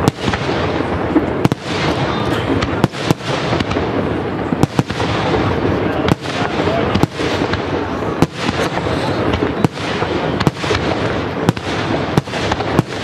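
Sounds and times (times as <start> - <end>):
dense firework firing: 0.0 - 13.0.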